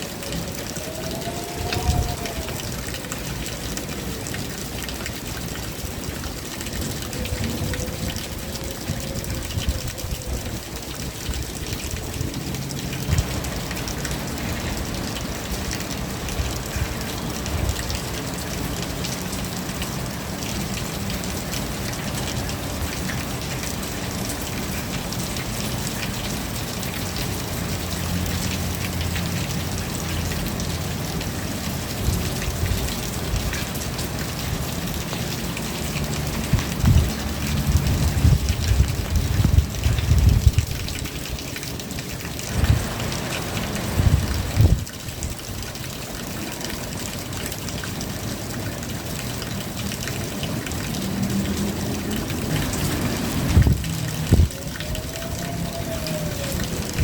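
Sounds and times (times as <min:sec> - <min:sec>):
rain drops tapping: 0:00.0 - 0:57.0.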